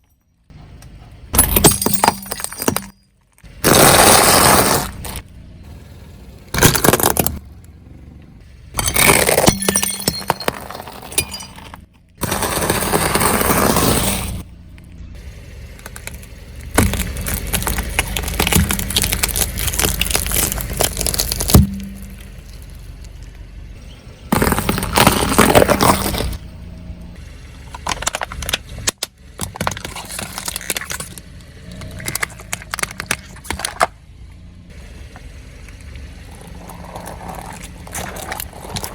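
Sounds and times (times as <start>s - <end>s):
objects crunching under car wheels: 0.0s - 38.9s.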